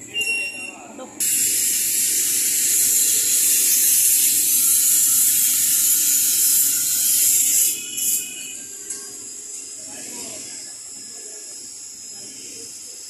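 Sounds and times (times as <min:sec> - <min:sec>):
loud steady hiss: 0:00.5 - 0:13.0.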